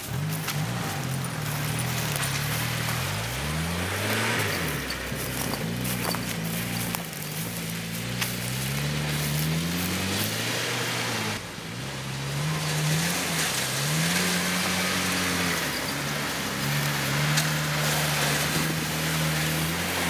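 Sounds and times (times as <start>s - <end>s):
vehicle engine revving: 0.0s - 20.0s.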